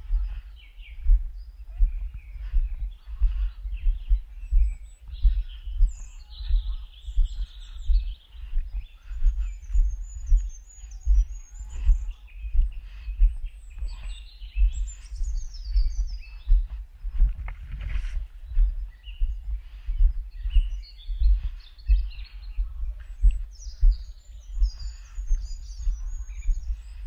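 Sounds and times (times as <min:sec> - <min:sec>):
small birds singing and chirping: 0:00.0 - 0:27.0.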